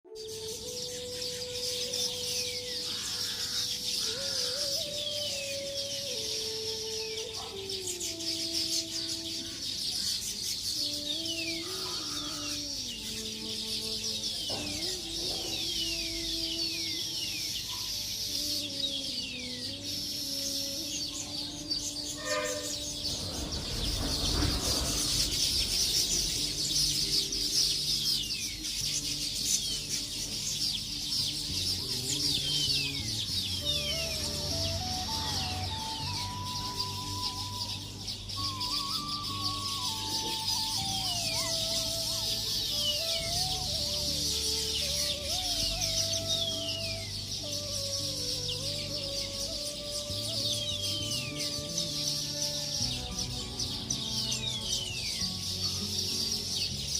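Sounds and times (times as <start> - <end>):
birds chirping: 0.0 - 56.9
soft music with held notes: 0.0 - 56.9.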